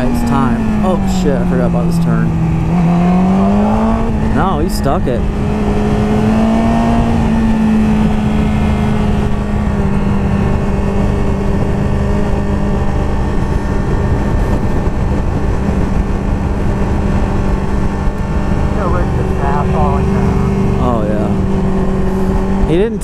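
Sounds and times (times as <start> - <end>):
motorcycle engine running: 0.0 - 23.0
wind noise: 0.0 - 23.0.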